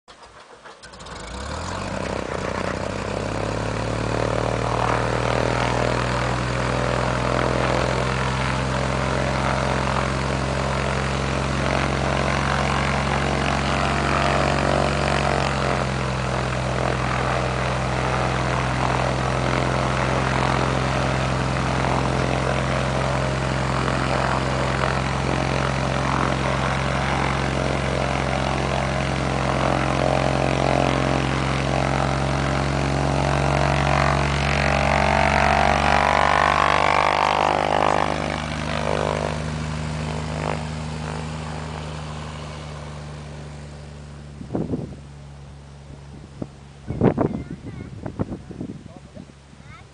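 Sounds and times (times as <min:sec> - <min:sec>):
propeller plane engine drone: 0:00.1 - 0:49.9.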